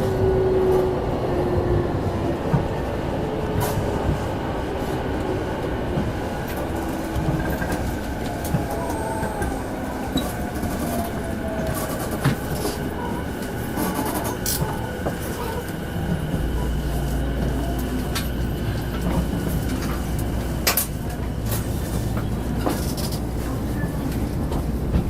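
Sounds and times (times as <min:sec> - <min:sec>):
train running noise: 0:00.0 - 0:25.0.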